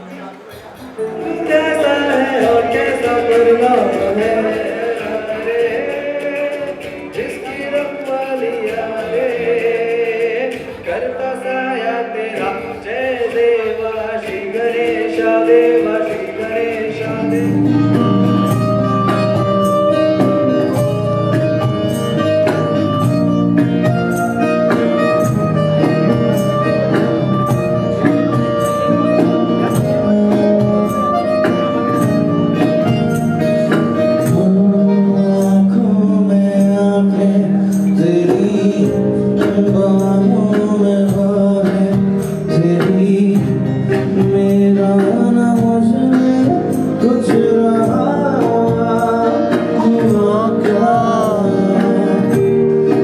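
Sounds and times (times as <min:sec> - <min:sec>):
song with singing voice: 0:00.0 - 0:53.0.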